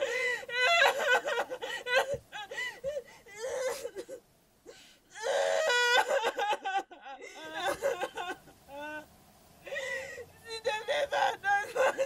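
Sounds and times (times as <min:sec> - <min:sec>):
person wailing and whimpering: 0:00.0 - 0:04.1, 0:05.1 - 0:09.1, 0:09.7 - 0:12.0.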